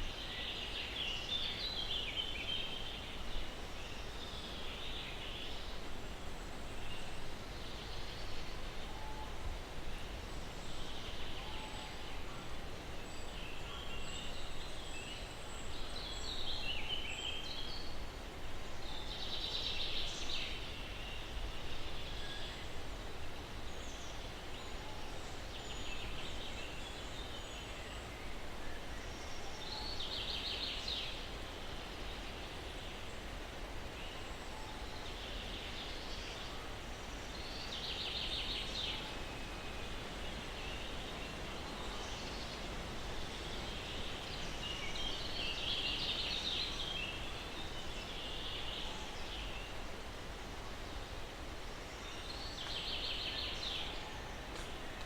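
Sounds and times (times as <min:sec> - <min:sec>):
breeze through pine trees: 0:00.0 - 0:55.0
songbirds singing trills: 0:00.0 - 0:55.0.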